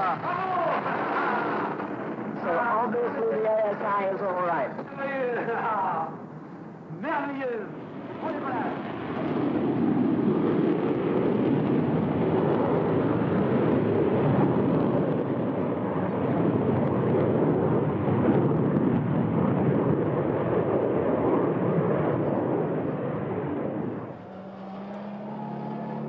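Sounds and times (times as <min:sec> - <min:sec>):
loud jet engine noise: 0:00.0 - 0:26.0.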